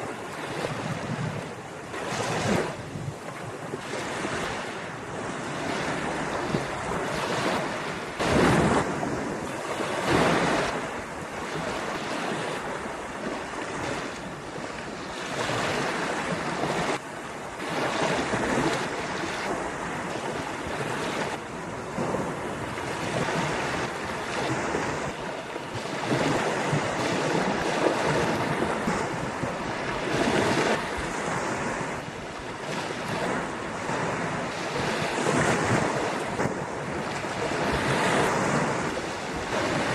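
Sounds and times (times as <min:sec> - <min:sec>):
ocean waves breaking on beach: 0:00.0 - 0:39.9
wind on microphone: 0:00.0 - 0:39.9.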